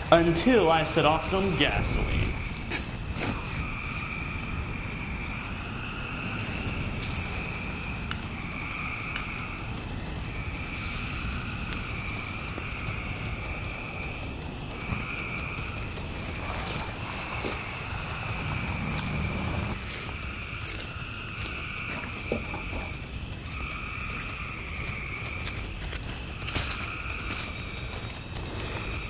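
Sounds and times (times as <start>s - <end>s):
frogs calling: 0.0s - 29.0s
high insect drone: 0.0s - 29.0s
rush of fire burning: 0.0s - 29.0s.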